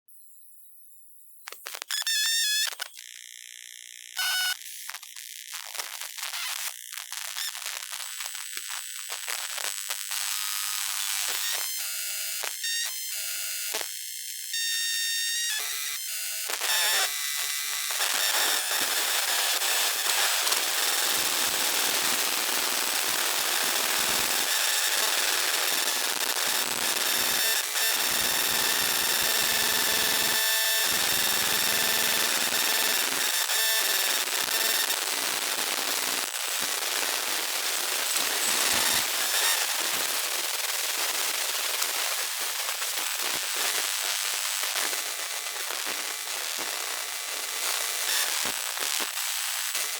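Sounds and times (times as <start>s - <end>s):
synthetic electric crackle and buzz: 1.5s - 49.9s.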